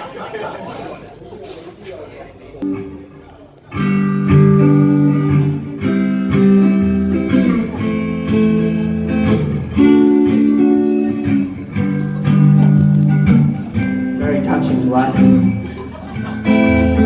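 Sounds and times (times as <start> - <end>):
strummed guitar chords: 2.6 - 17.0.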